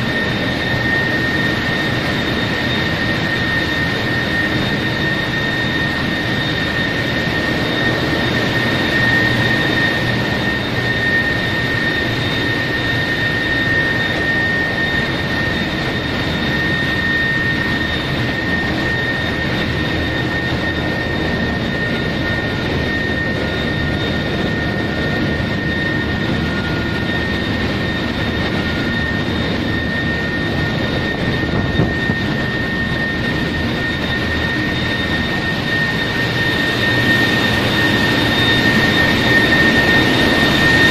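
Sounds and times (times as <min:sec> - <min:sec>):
engine room machinery roar: 0:00.0 - 0:40.9
high-pitched whine: 0:00.0 - 0:40.9.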